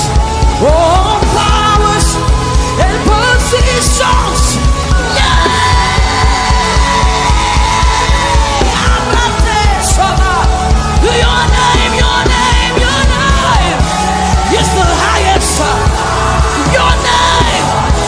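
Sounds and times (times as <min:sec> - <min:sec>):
gospel band playing: 0:00.0 - 0:18.0
loud raised voices singing: 0:00.0 - 0:18.0.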